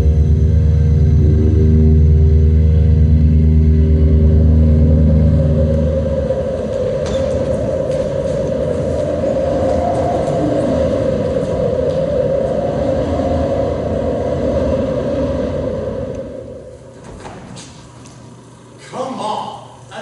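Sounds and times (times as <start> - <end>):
loud rumbling noise: 0.0 - 18.8.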